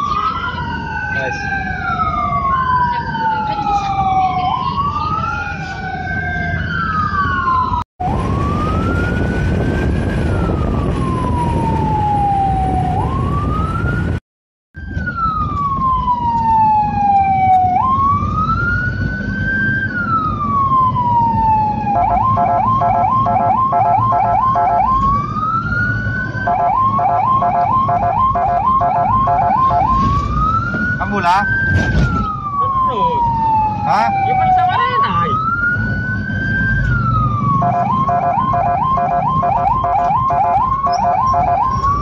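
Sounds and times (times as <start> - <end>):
ambulance sirens wailing: 0.0 - 14.2, 14.8 - 42.0
siren rapid yelp: 0.0 - 14.2, 14.8 - 42.0
engine and road noise: 0.0 - 42.0.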